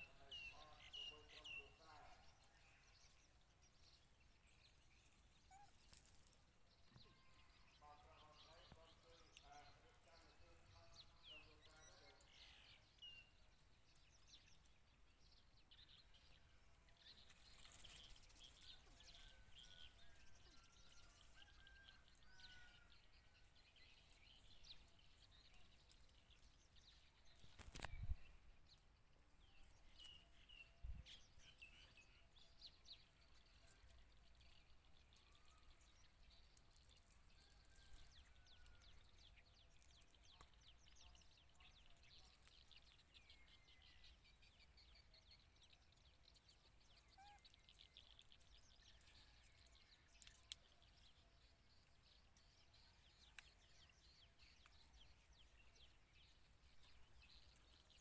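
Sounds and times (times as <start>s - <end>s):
bird chirps: 0.0s - 58.0s.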